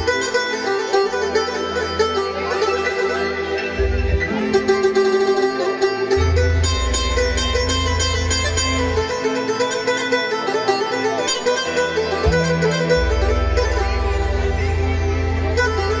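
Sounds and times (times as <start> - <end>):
electronic keyboard music: 0.0 - 16.0.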